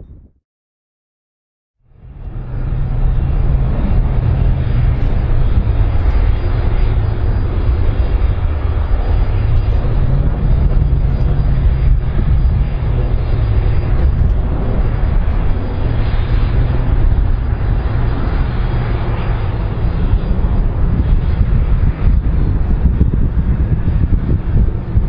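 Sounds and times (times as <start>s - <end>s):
jet engines rumbling: 1.9s - 25.0s.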